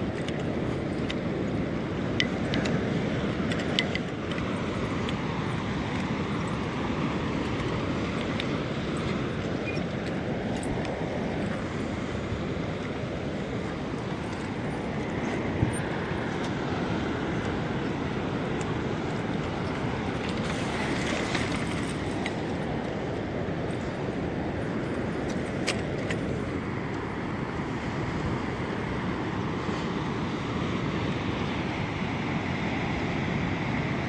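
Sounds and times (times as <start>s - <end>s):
sea washing against pier: 0.0s - 34.0s
wind on microphone: 0.0s - 34.0s.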